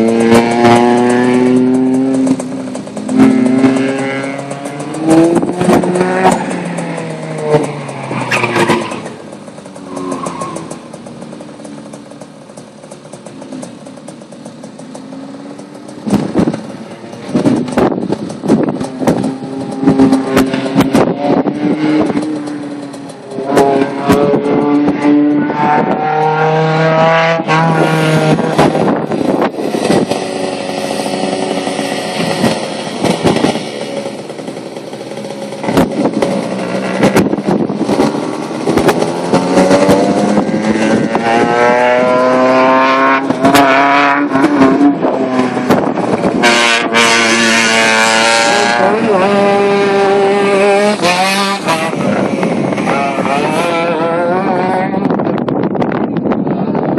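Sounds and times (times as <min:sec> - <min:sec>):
race car engine revving: 0:00.0 - 0:56.8.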